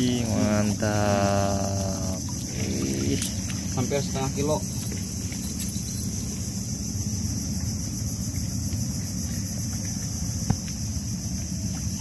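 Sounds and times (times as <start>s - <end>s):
boat motor rumbling: 0.0s - 12.0s
high insect buzz: 0.0s - 12.0s.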